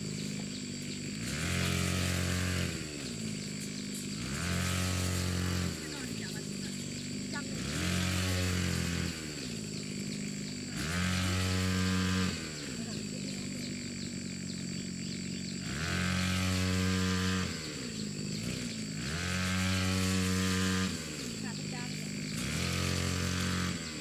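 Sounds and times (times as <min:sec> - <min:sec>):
small engine revving: 0:00.0 - 0:24.0.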